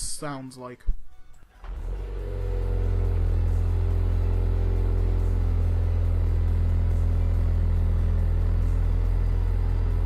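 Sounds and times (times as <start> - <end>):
car engine idling: 1.6 - 10.0.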